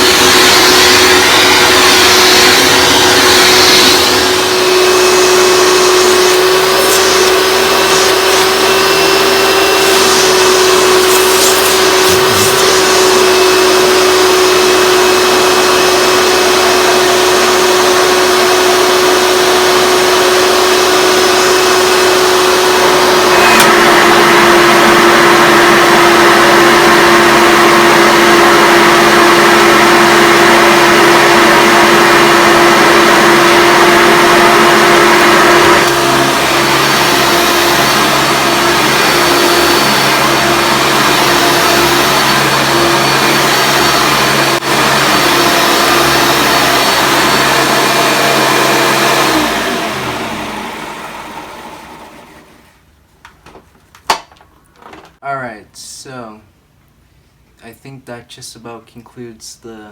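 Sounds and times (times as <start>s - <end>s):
vacuum cleaner motor whining: 0.0s - 52.9s.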